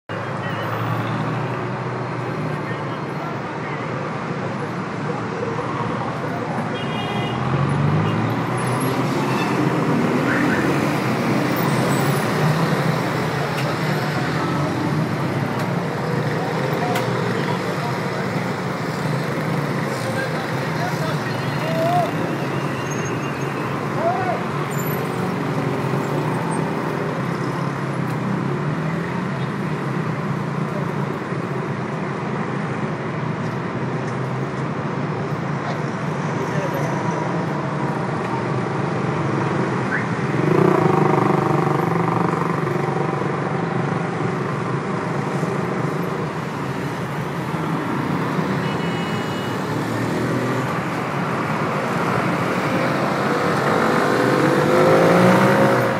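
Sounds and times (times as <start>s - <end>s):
car and bus engines: 0.0s - 55.9s
road traffic: 0.0s - 55.9s.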